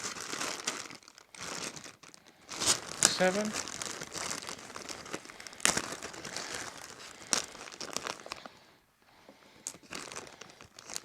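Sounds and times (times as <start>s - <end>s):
plastic bags crinkling: 0.0s - 8.7s, 9.5s - 11.0s.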